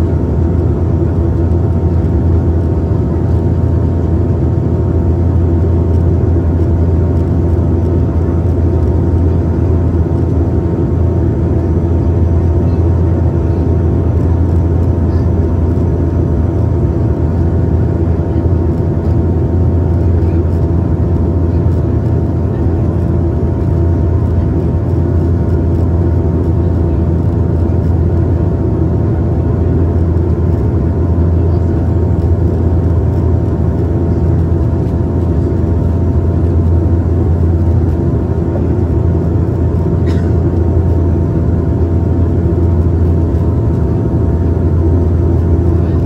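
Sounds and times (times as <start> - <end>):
turboprop engines droning: 0.0 - 46.0.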